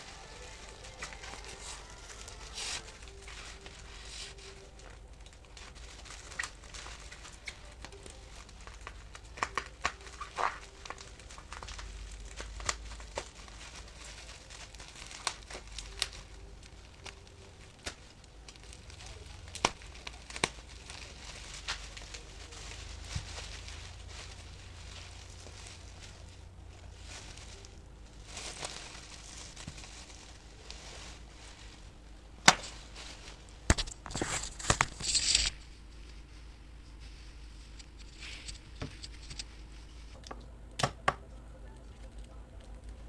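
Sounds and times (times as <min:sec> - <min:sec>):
paper and plastic crinkling: 0:00.0 - 0:43.0.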